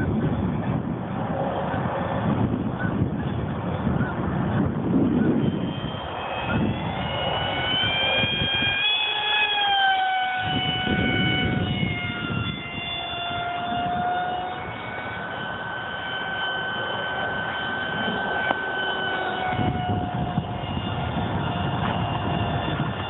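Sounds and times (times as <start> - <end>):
electric motor and propeller whine: 0.0 - 23.0
wind buffeting microphone: 0.0 - 23.0.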